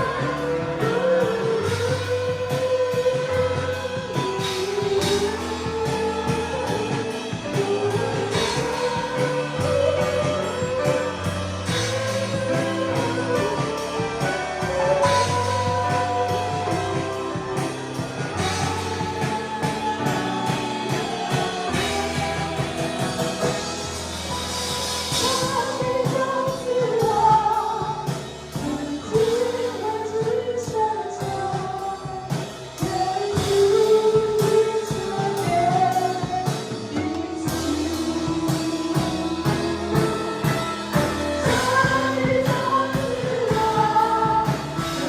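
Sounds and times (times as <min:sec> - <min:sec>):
band playing slow song: 0:00.0 - 0:45.0
person singing: 0:00.0 - 0:45.0.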